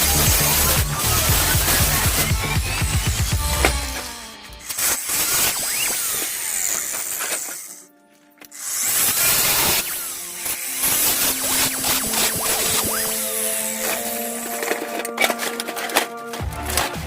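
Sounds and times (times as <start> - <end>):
electronic music: 0.0 - 6.5, 8.6 - 17.0.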